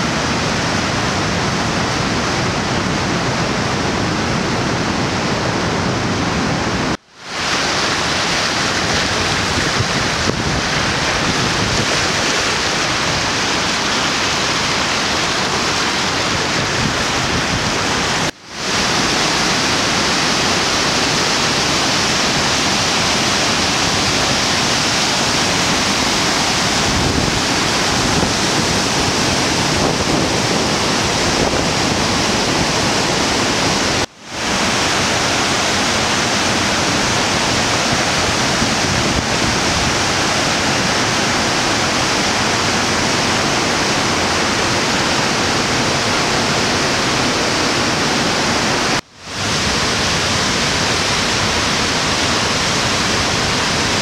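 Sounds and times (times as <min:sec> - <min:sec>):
river rushing over waterfall: 0:00.0 - 0:54.0.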